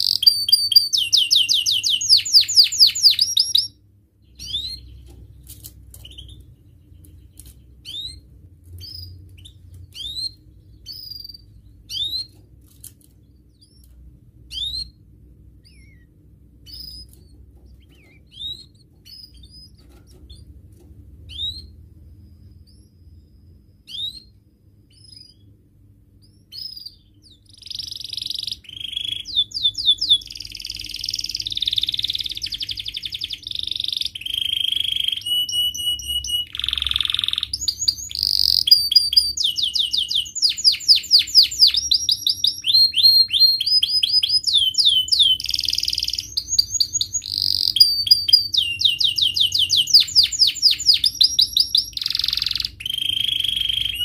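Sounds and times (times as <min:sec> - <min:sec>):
canary chirps: 0:00.0 - 0:54.0
canary song with trills: 0:00.0 - 0:54.0.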